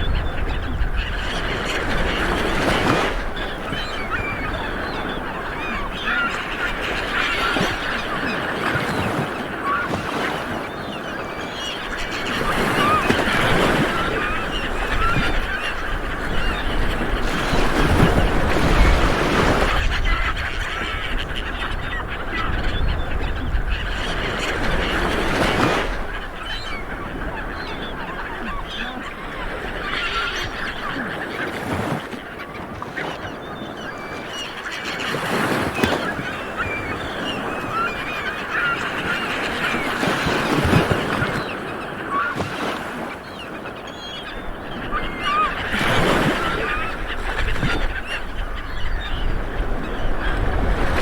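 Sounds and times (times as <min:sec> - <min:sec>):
birds honking cries: 0:00.0 - 0:51.0.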